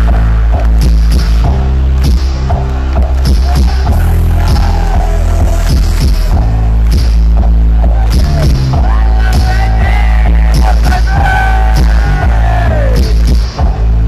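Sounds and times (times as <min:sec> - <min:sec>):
electronic beat: 0:00.0 - 0:14.0
synth bass line: 0:00.0 - 0:14.0.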